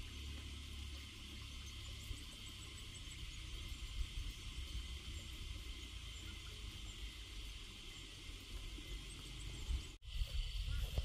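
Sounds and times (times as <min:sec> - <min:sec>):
faint high chirps: 0:00.0 - 0:10.0
insects buzzing: 0:00.0 - 0:11.0.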